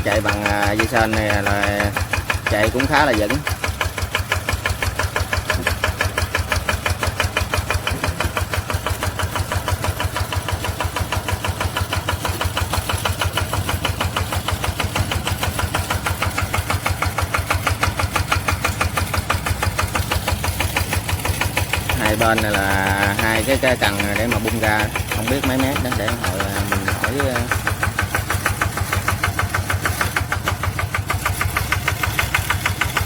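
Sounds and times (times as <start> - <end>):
small engine chugging: 0.0 - 33.0.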